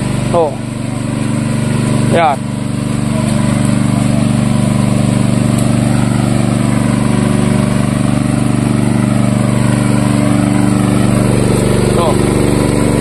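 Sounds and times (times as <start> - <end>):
petrol water pump running: 0.0 - 13.0.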